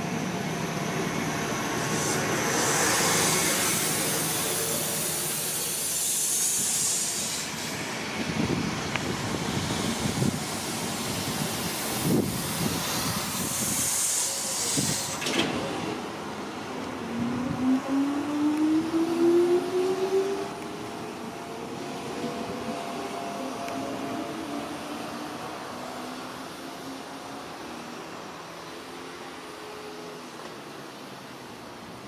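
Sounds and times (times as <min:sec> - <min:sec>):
approaching train whine: 0:00.0 - 0:31.4
train wheels rushing on rails: 0:00.0 - 0:32.0.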